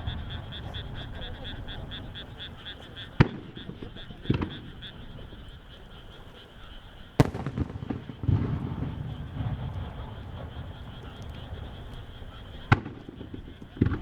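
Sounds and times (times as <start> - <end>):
firework shells bursting: 0.0 - 4.8, 7.2 - 14.0
rapid pulsing call: 0.0 - 14.0.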